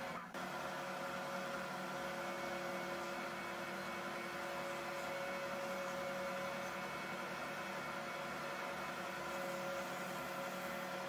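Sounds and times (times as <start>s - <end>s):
spindle sander humming: 0.0s - 11.0s.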